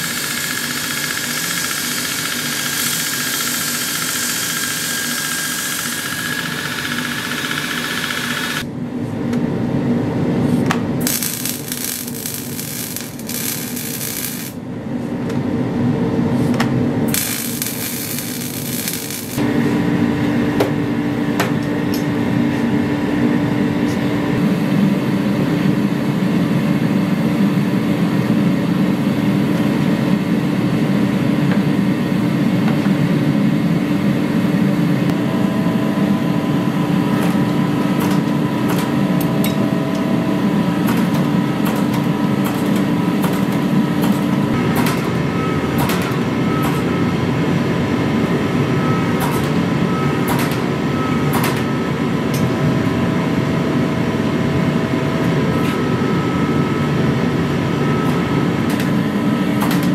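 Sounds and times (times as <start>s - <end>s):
gas burner rushing and humming: 0.0s - 59.9s.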